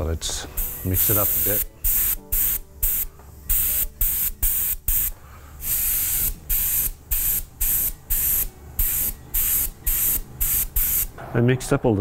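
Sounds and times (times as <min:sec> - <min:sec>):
airbrush spraying: 0:00.0 - 0:11.1.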